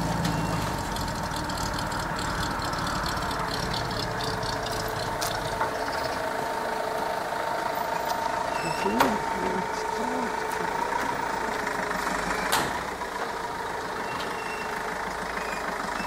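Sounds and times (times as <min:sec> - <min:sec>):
machinery engine idling: 0:00.0 - 0:16.0.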